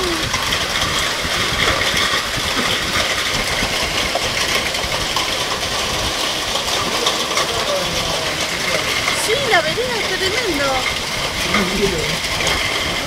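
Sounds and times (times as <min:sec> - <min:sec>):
heavy rain patter: 0:00.0 - 0:13.0
low rumble of wind: 0:00.0 - 0:13.0.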